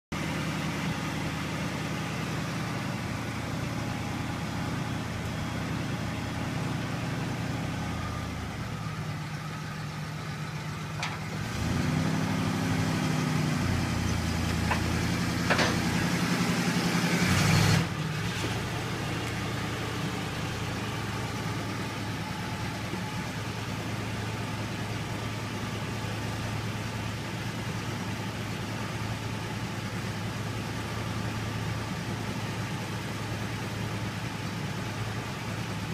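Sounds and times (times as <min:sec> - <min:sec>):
pickup truck engine: 0:00.1 - 0:35.9.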